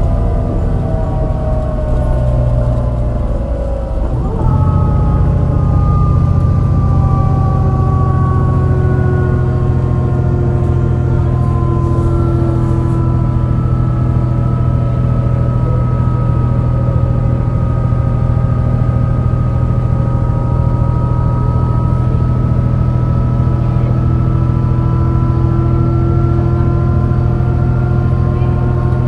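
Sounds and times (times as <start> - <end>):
gearbox whine: 0.0 - 29.0
misfiring bus engine under load: 0.0 - 29.0.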